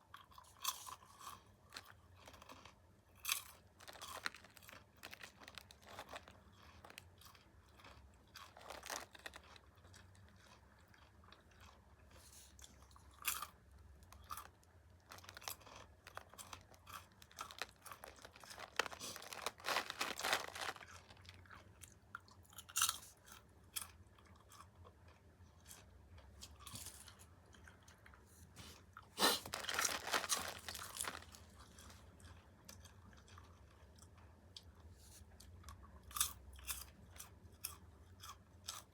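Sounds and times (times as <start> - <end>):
person crunching popcorn: 0.1 - 34.3, 35.4 - 38.9.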